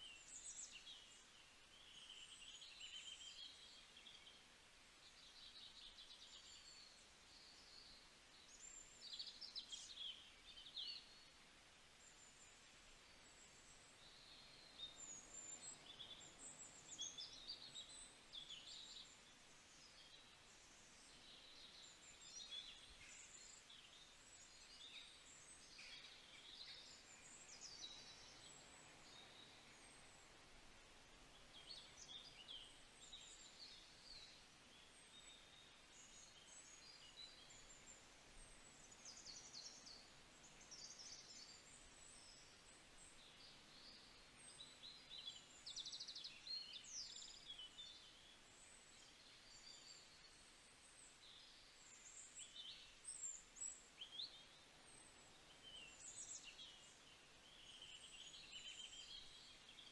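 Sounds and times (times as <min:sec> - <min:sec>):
low background hiss: 0:00.0 - 0:59.9
songbirds chirping: 0:00.0 - 0:59.9.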